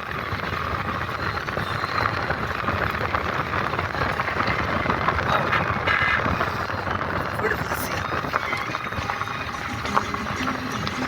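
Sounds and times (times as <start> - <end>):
continuous rattling: 0.0 - 11.0
vehicle rumble on rough road: 0.0 - 11.0.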